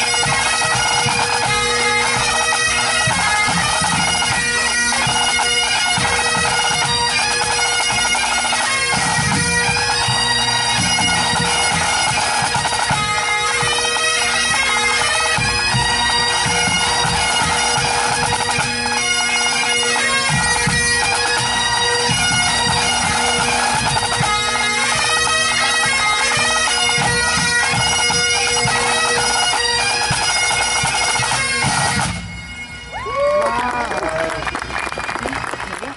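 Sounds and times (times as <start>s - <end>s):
bagpipes playing over drone: 0.0s - 35.9s
pipe band drums beating: 0.0s - 35.9s.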